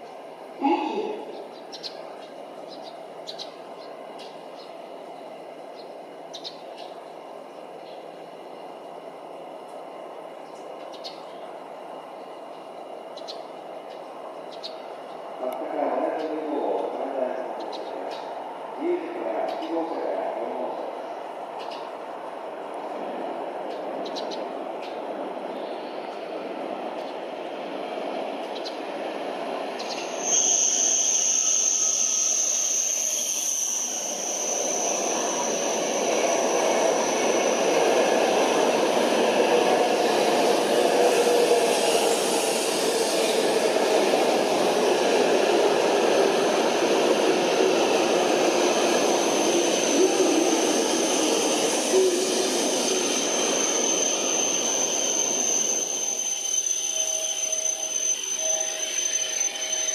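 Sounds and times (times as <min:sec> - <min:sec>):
train rushing rumble: 0:00.0 - 0:56.6.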